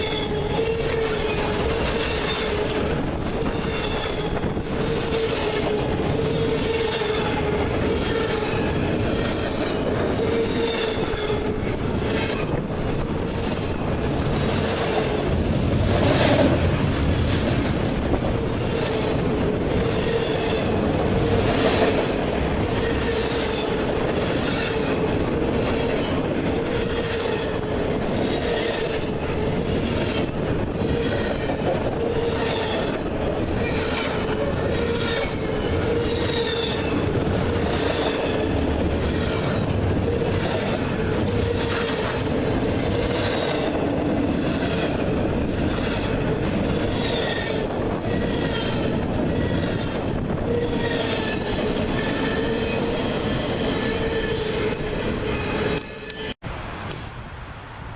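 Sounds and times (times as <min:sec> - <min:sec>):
train wheels rumbling on rails: 0:00.0 - 0:57.2.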